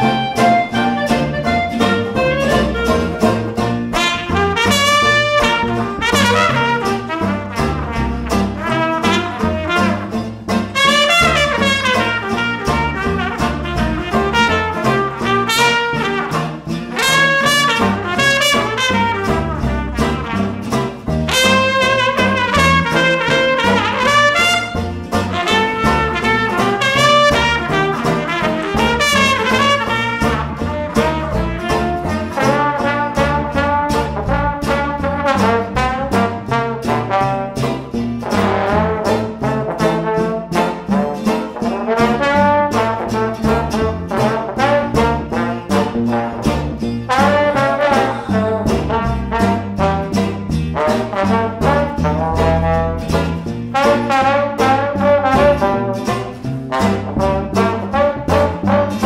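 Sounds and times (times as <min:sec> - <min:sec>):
jazz band playing: 0:00.0 - 0:59.0.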